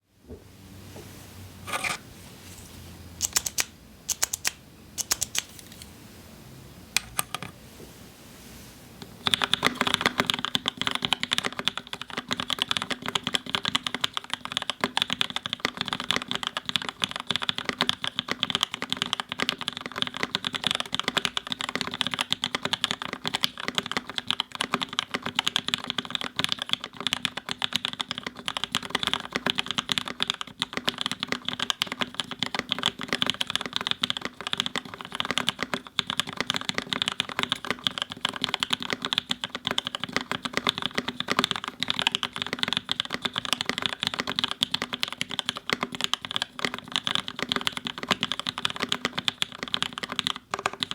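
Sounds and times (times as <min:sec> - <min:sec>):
mechanical keyboard typing: 0:03.2 - 0:05.8, 0:09.2 - 0:50.9.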